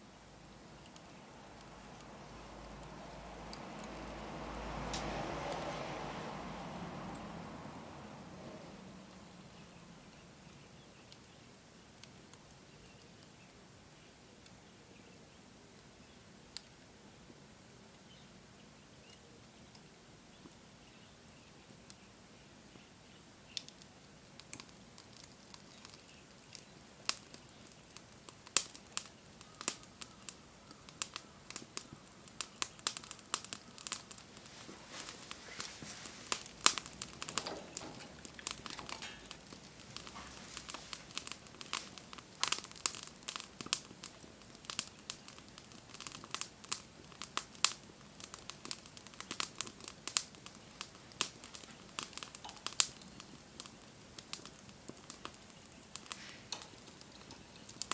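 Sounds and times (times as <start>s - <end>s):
campfire crackling and popping: 0.5s - 7.3s, 9.0s - 57.9s.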